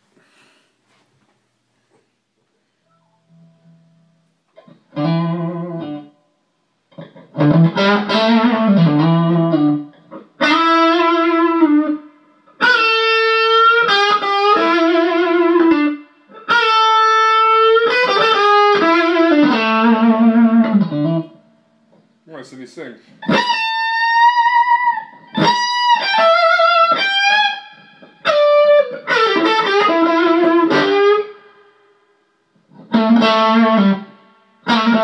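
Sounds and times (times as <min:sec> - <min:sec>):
blues melody: 0:02.9 - 0:06.3, 0:06.9 - 0:22.0, 0:23.2 - 0:31.9, 0:32.6 - 0:35.0.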